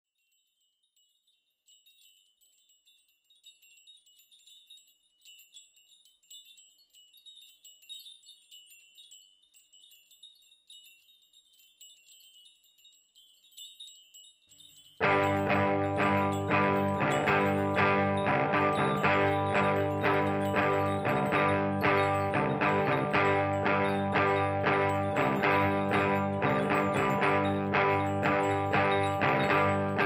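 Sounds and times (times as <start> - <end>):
wind chimes tinkling: 0.1 - 30.0.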